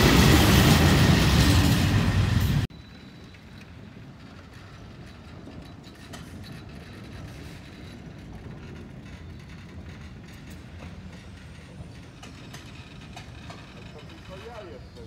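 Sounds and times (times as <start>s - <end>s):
wheels clicking on rails: 1.2s - 15.0s.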